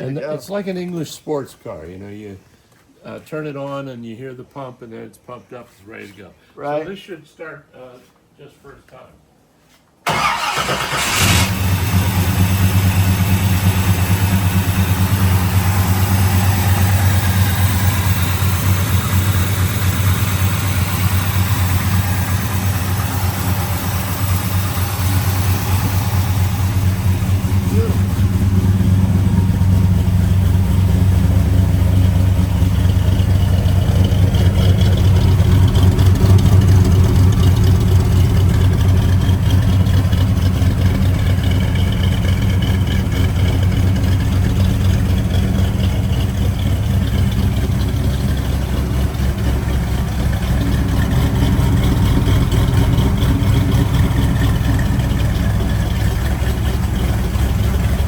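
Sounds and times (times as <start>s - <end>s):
car engine idling: 10.1s - 58.0s.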